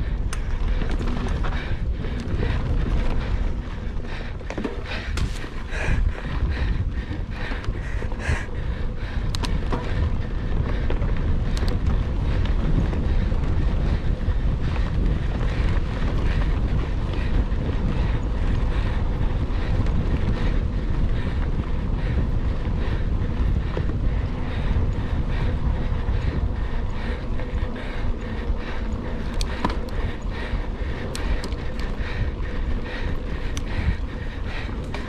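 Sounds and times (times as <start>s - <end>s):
bike rumbling and rattling: 0.0s - 35.0s
wind buffeting microphone: 0.0s - 35.0s.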